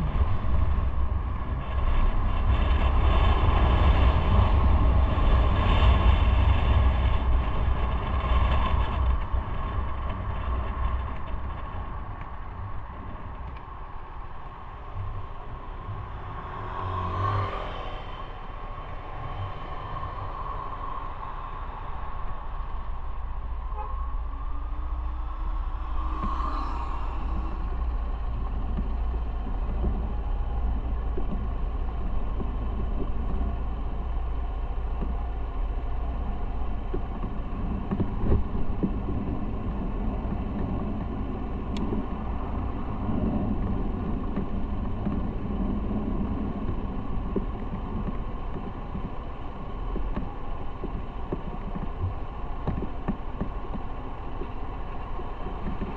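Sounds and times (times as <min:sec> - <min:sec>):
road and wind noise: 0:00.0 - 0:55.9.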